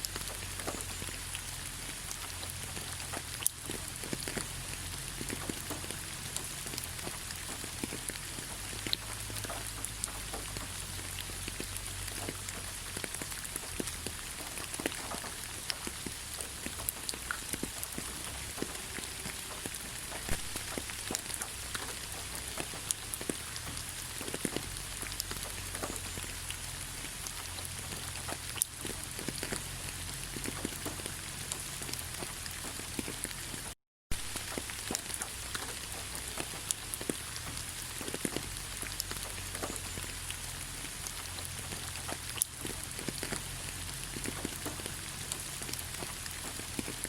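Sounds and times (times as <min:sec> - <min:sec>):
raindrops ticking: 0:00.0 - 0:47.0
steady rain hiss: 0:00.0 - 0:47.0.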